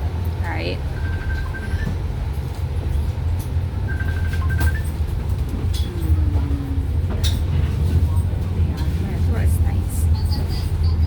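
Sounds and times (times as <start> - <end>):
bus rumbling: 0.0 - 11.0.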